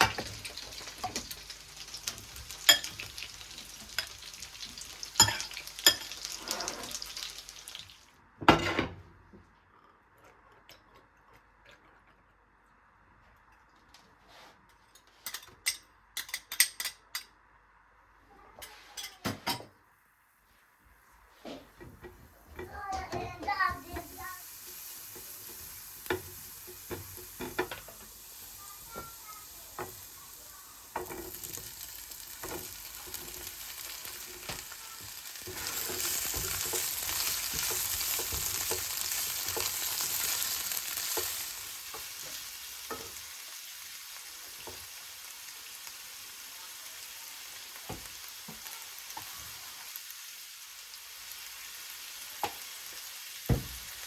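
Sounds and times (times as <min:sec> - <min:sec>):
food sizzling in a pan: 0:00.0 - 0:08.2, 0:18.6 - 0:54.0.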